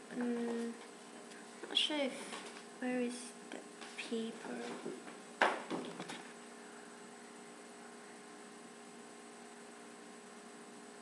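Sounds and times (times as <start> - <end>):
faint electrical hum and hiss: 0.0 - 11.0.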